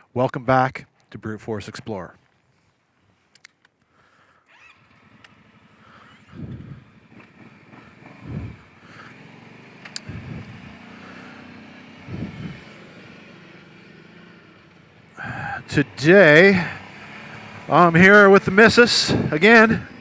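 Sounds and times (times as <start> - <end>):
atv engine rumbling: 4.0 - 20.0.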